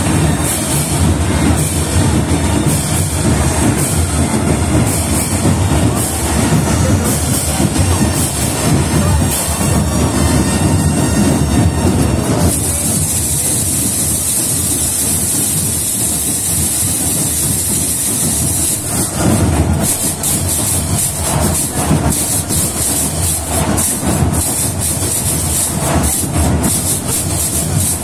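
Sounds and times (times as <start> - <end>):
marching drums: 0.0 - 28.0.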